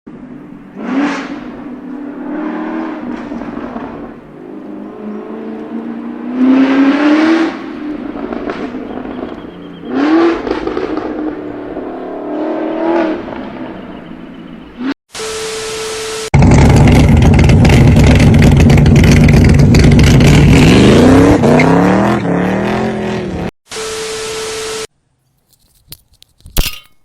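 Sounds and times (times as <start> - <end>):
car engine revving: 0.4 - 15.4, 16.4 - 24.8.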